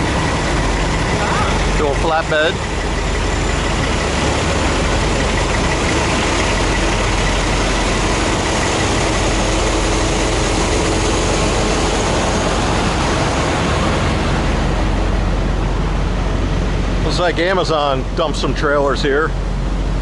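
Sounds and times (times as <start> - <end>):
diesel truck engines idling: 0.0 - 20.0.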